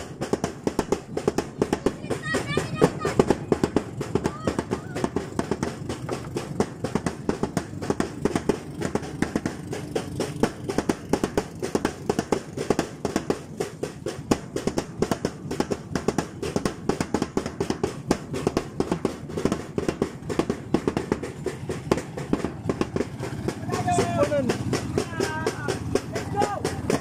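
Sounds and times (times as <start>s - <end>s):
music with fast drumbeat: 0.0s - 27.0s.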